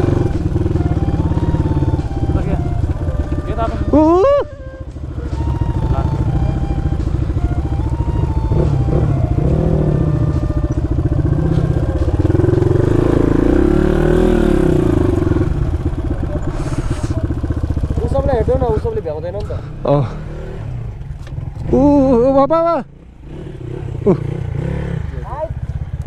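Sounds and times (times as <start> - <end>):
dirt bike engine idling: 0.0 - 26.0
motorcycle engine revving: 0.0 - 26.0.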